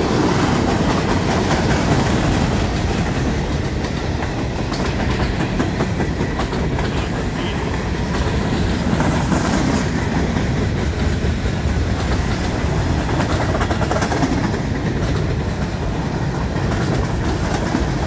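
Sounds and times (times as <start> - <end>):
freight cars rumbling: 0.0 - 18.0
wheels clicking on rail: 0.0 - 18.0.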